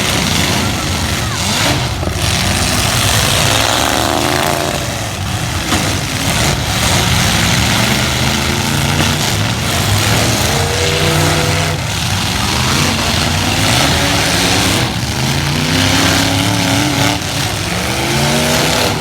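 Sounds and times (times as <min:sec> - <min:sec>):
truck engines revving: 0:00.0 - 0:19.0.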